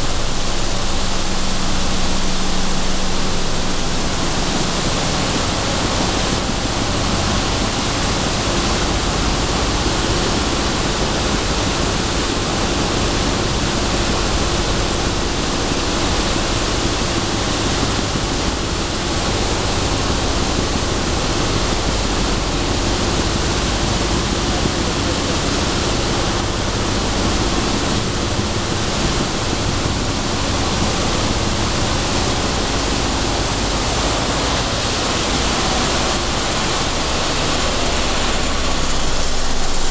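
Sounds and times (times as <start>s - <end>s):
loud rushing machinery din: 0.0s - 39.9s
low machine hum: 0.0s - 39.9s.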